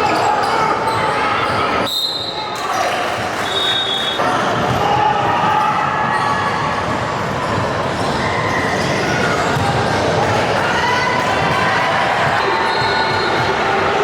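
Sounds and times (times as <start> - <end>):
spectators' voices: 0.0 - 14.0.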